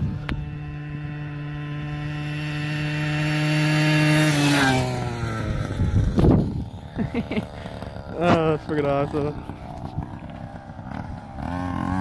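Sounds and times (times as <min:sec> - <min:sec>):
small engine buzzing past: 0:00.0 - 0:12.0.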